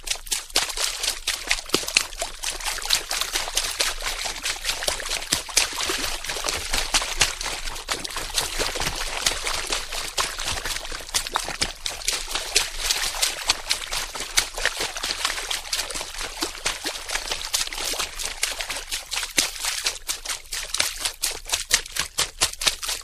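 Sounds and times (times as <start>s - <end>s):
water splashing: 0.0s - 23.0s.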